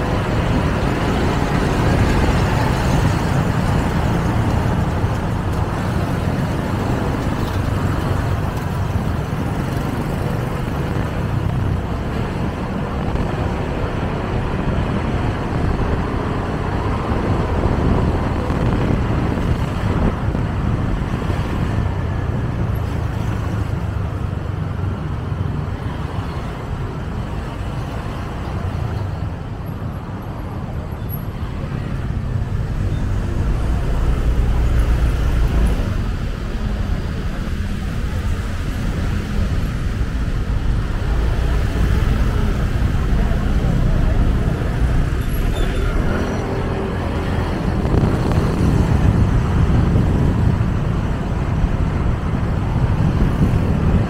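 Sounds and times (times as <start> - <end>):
surrounding traffic noise: 0.0 - 54.0.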